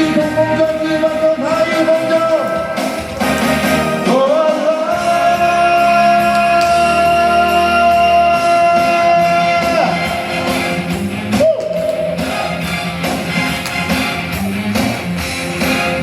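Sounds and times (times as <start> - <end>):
rock song with band: 0.0 - 16.0.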